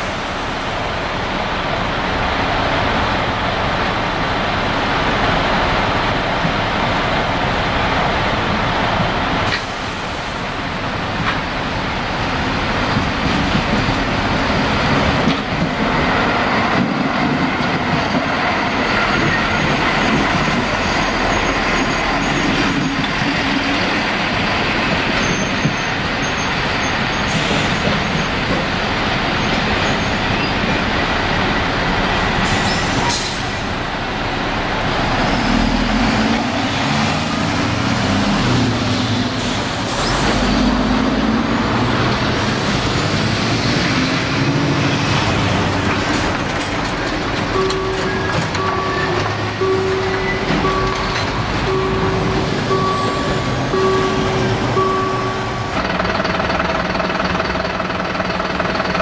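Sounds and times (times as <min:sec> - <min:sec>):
train diesel engine: 0:00.0 - 0:59.0
train wheels rumbling on track: 0:00.0 - 0:59.0.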